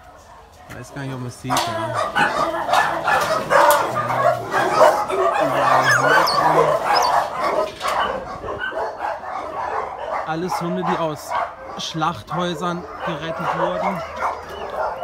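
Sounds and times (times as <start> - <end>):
many dogs barking and yelping: 0.0 - 15.0.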